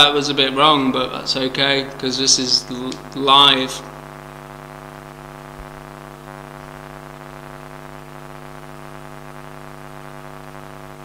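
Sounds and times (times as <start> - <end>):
electric guitar amp hum and buzz: 0.0 - 11.0.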